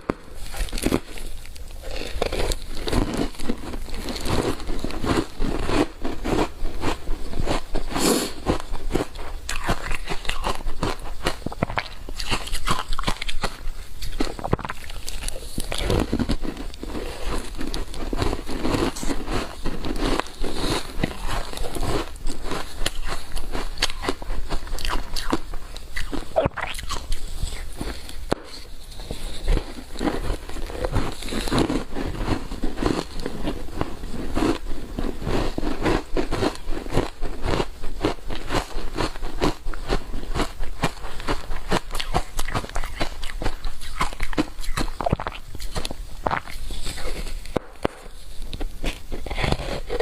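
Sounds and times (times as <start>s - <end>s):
crunching and chewing ice: 0.0s - 50.0s.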